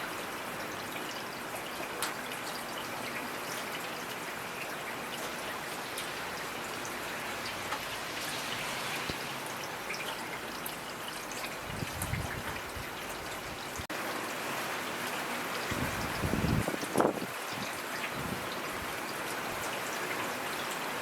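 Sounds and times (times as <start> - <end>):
raindrops ticking on a surface: 0.0 - 21.0
steady rainfall: 0.0 - 21.0.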